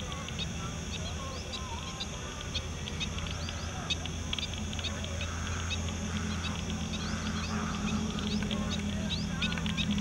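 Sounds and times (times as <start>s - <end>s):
birds chirping and calling: 0.0s - 10.0s
steady low hum: 0.0s - 10.0s.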